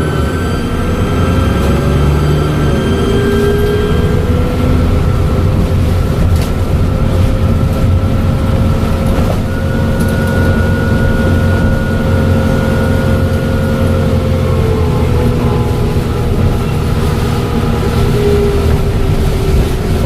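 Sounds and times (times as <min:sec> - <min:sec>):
turbocharger whistle: 0:00.0 - 0:05.8, 0:08.4 - 0:20.0
bus engine drone: 0:00.0 - 0:20.0.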